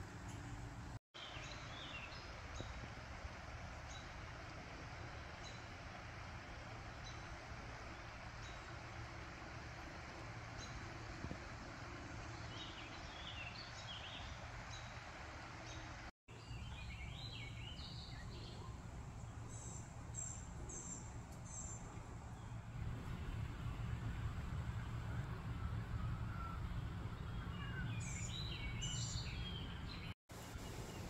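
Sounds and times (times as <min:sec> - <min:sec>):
outdoor background hiss: 0:00.0 - 0:31.0
birds chirping: 0:05.1 - 0:31.0.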